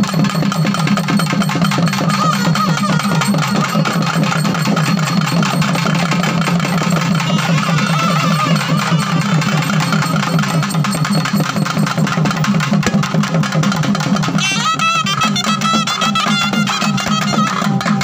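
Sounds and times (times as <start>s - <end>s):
fast drumming: 0.0s - 18.0s.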